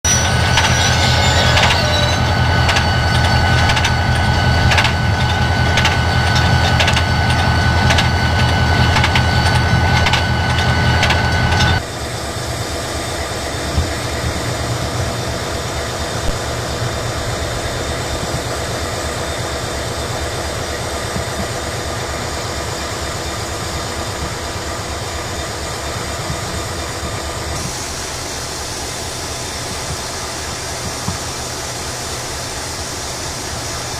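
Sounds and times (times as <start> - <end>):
diesel locomotive engine hum: 0.0 - 33.9
train rumble: 0.0 - 33.9
train wheels clicking over rail joints: 0.0 - 33.9.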